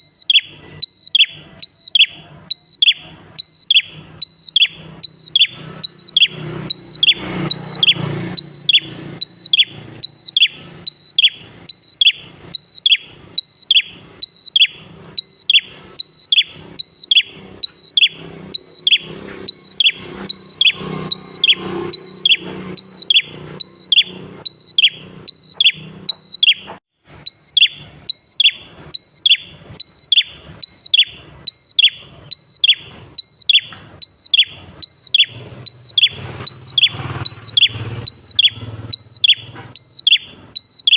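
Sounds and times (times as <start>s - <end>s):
songbird high descending calls: 0.0s - 40.9s.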